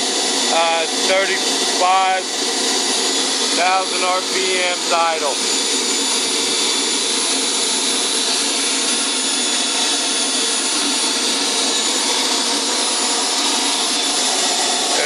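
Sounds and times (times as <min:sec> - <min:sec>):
jet turbine idling: 0:00.0 - 0:15.0.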